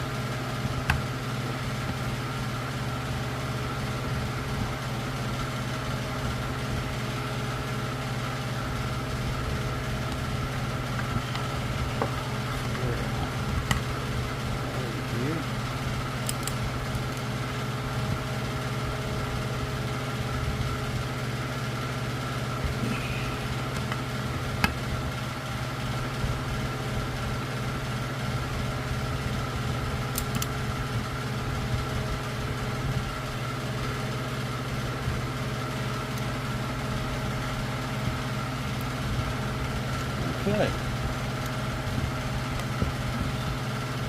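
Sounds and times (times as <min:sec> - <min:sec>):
machine humming with faint whine: 0:00.0 - 0:44.0.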